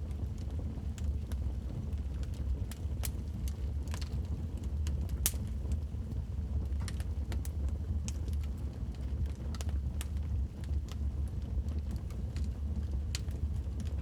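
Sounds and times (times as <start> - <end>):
wood fire crackling: 0.1 - 14.0.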